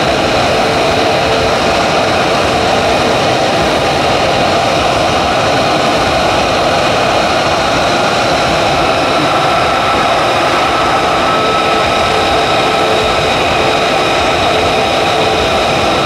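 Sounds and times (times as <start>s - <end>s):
higher tone: 0.0s - 16.0s
jet engine whine: 0.0s - 16.0s.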